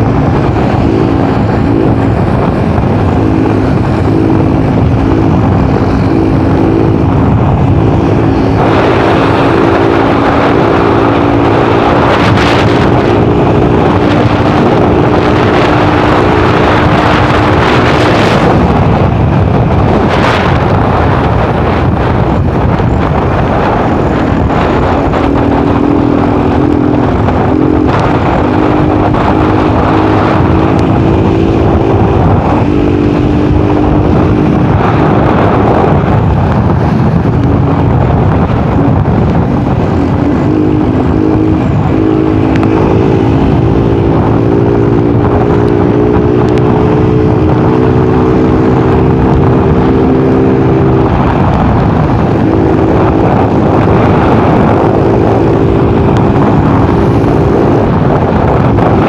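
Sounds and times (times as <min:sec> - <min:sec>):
motorcycle engine running: 0:00.0 - 0:59.0
wind rush: 0:00.0 - 0:59.0.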